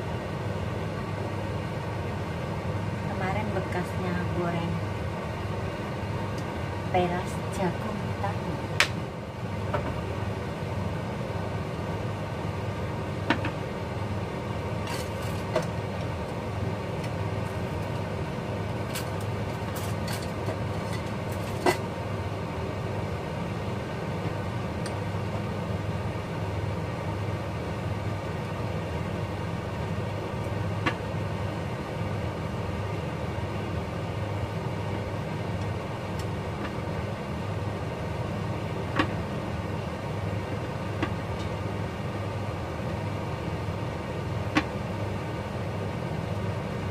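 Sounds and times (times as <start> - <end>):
low kitchen hum: 0.0 - 46.9.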